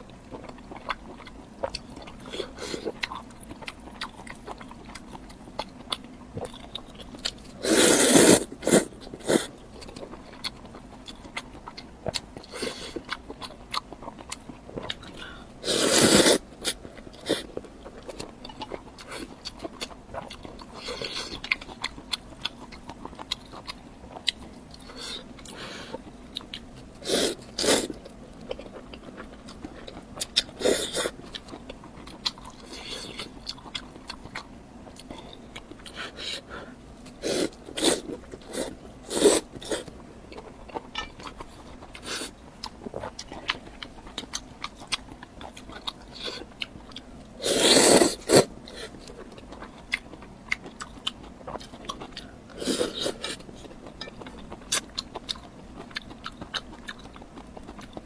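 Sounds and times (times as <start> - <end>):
chewing and mouth clicks: 0.0 - 15.4, 16.1 - 58.0.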